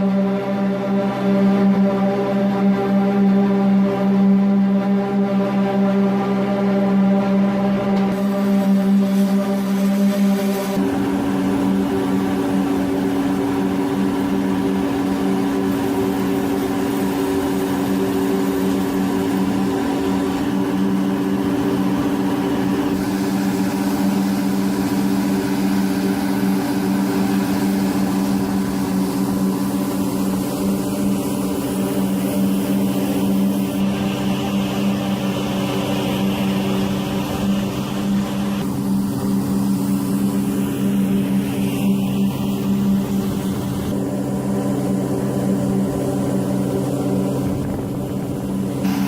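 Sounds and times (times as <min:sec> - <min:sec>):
heavy machine engine droning: 0:00.0 - 0:49.0.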